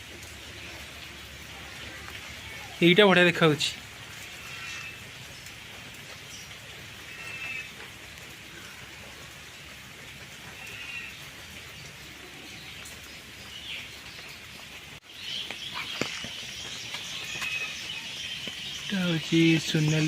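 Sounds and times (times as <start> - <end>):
birds chirping: 0.0 - 9.8, 10.6 - 20.0.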